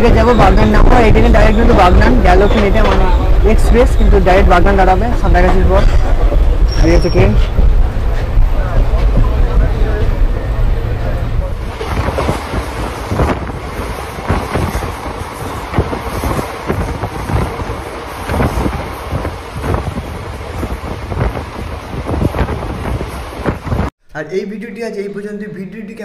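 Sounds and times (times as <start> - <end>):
train clattering knocks: 0.0 - 23.9
wind rushing on microphone: 0.0 - 23.9.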